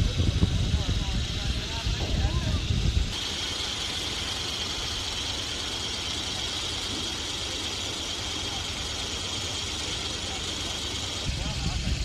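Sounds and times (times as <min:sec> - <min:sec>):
diesel engine running: 0:00.0 - 0:12.0
steady high hiss: 0:00.0 - 0:12.0.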